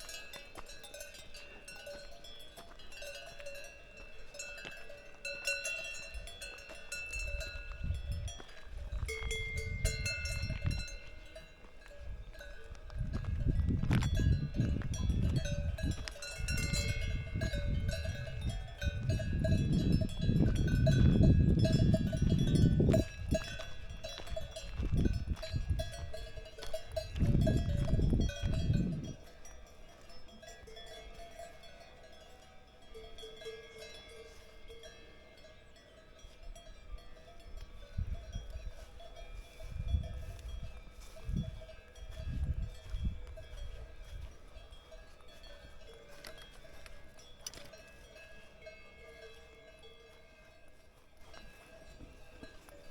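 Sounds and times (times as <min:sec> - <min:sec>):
cowbells ringing and clanking: 0:00.0 - 0:52.9.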